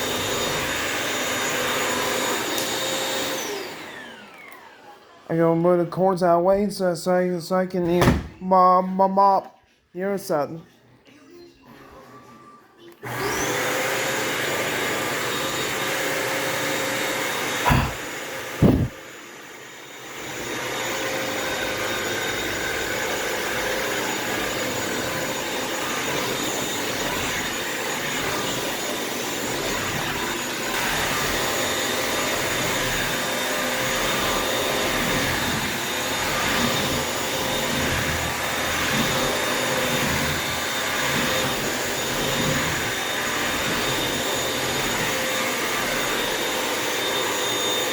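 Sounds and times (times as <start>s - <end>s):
floor cleaner whirring: 0.0s - 6.8s, 11.4s - 47.9s.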